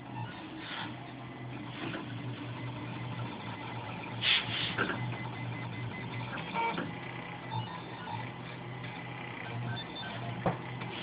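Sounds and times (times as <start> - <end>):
printer stepper motors humming: 0.0 - 11.0.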